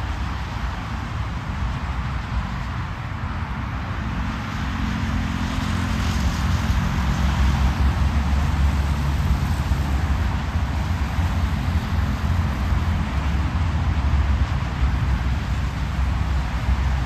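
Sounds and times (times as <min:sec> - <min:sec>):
car highway road noise: 0:00.0 - 0:17.0.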